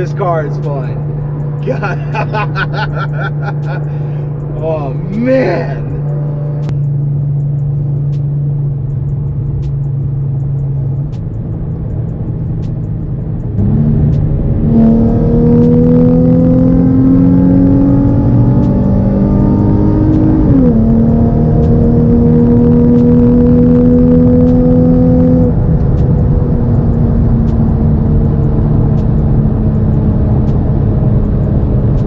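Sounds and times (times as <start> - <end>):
car engine droning from cabin: 0.0 - 32.0.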